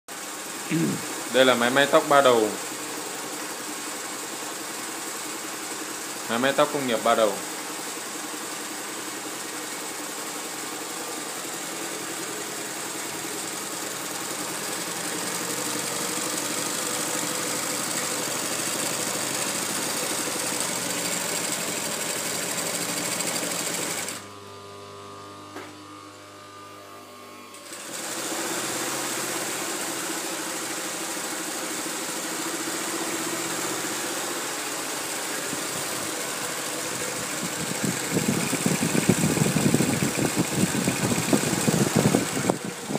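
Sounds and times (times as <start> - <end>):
sewing machine running: 0.5 - 24.3, 27.5 - 42.9.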